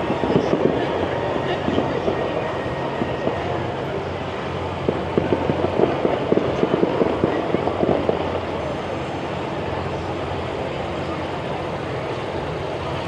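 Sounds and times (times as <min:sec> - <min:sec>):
steady background din: 0:00.0 - 0:13.0.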